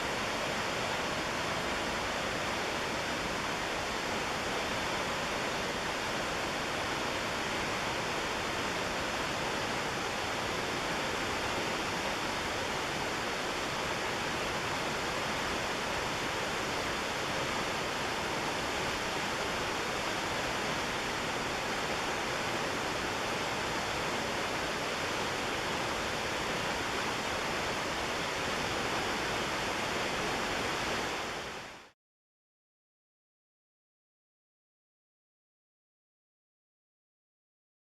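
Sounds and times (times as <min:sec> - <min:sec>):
whitewater rushing: 0:00.0 - 0:31.9.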